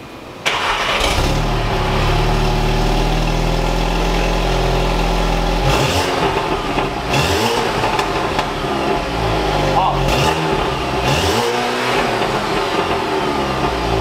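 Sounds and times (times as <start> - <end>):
car engine idling: 0.4 - 14.0.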